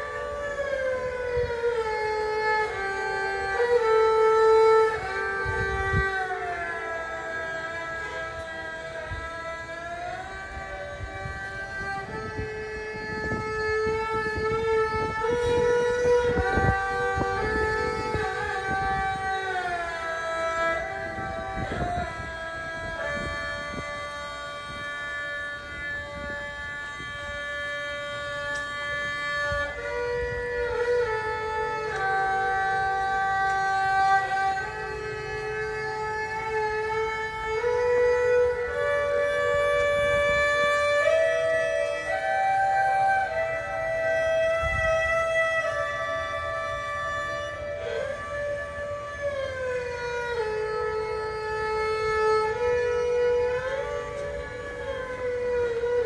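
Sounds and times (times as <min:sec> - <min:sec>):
slow gliding melody: 0:00.0 - 0:56.0
slow wind instrument music: 0:00.0 - 0:56.0.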